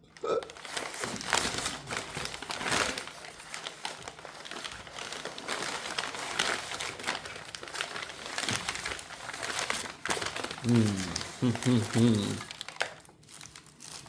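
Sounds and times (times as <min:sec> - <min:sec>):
packaging rustling and crinkling: 0:00.4 - 0:14.0.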